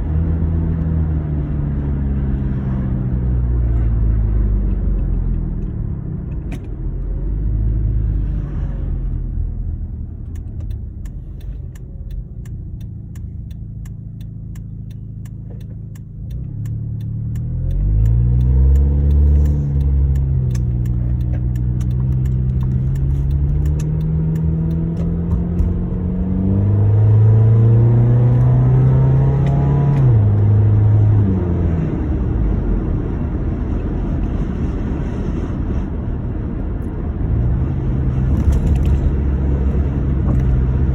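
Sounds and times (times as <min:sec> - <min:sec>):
car engine and exhaust accelerating: 0:00.0 - 0:40.9.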